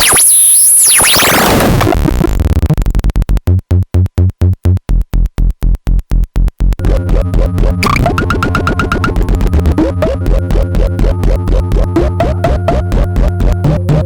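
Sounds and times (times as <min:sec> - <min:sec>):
fast gated low synth pulses: 0:01.0 - 0:14.0.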